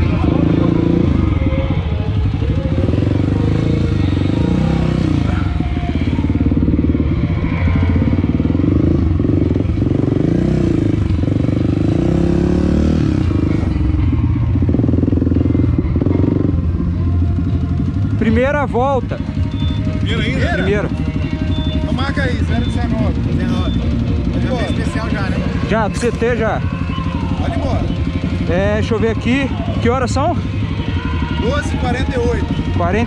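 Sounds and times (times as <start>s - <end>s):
motorcycle engine running slowly: 0.0s - 33.0s.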